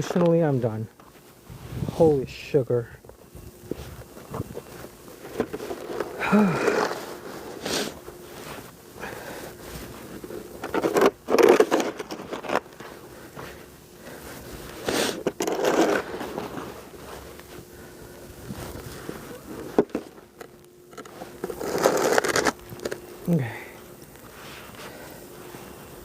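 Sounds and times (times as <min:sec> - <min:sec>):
snow shovel scraping snow: 0:03.6 - 0:20.2, 0:21.0 - 0:23.5, 0:24.2 - 0:26.0.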